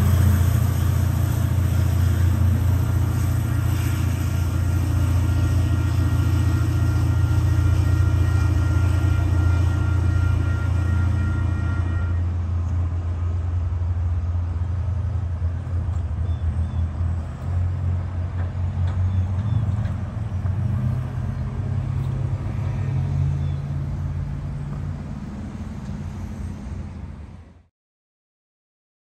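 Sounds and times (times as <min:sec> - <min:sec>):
vehicle engine rumble: 0:00.0 - 0:27.7.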